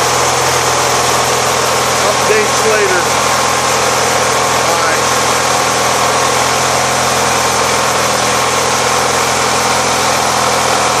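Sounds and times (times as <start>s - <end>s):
mower engine running: 0.0s - 11.0s
sawmill wheels and pulleys spinning: 0.0s - 11.0s.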